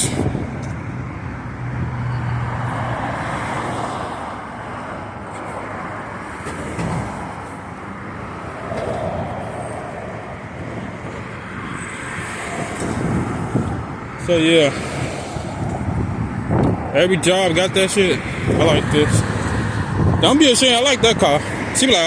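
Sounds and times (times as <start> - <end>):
cars passing on street: 0.0 - 22.0.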